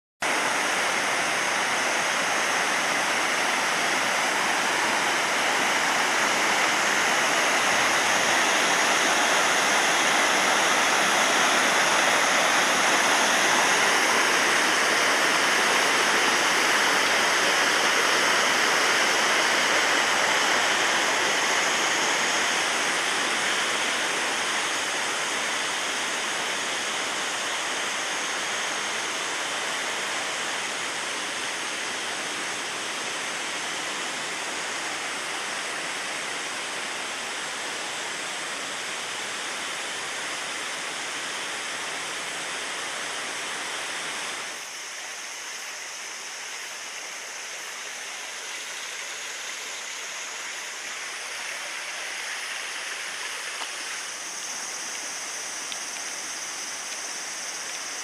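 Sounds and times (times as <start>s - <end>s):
waterfall rushing: 0.2s - 58.0s.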